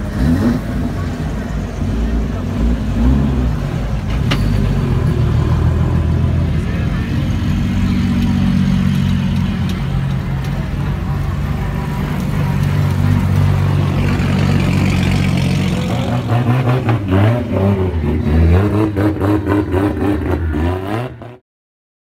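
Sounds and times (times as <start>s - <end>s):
car engines revving: 0.0s - 21.4s.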